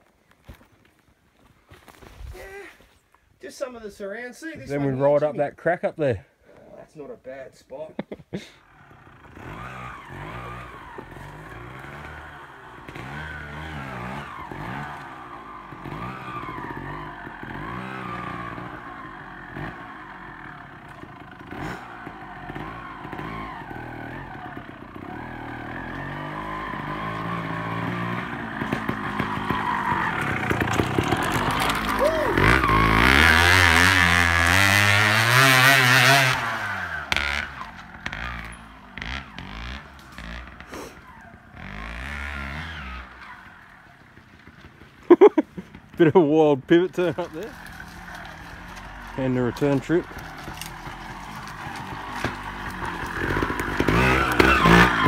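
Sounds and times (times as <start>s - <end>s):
motorcycle engine revving: 8.4s - 55.0s.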